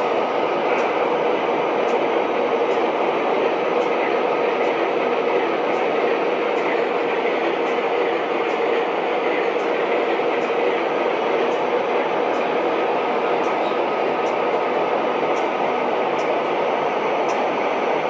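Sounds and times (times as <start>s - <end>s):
model locomotive diesel idle: 0.0s - 18.0s.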